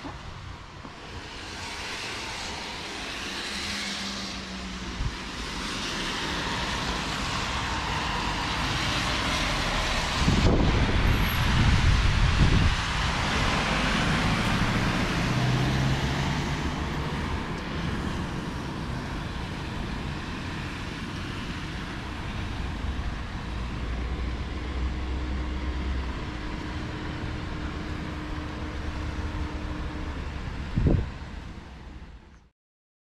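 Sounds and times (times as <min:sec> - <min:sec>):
tyres hissing on wet road: 0:00.0 - 0:32.1.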